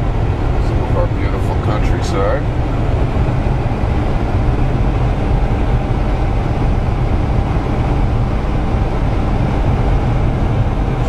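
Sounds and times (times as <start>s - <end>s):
vehicle cabin road drone: 0.0s - 11.0s.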